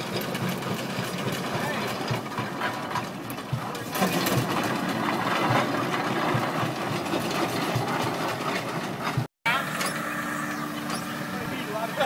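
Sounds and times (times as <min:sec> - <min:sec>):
mechanical clatter: 0:00.0 - 0:10.1
steam traction engine chuffing: 0:00.0 - 0:12.0.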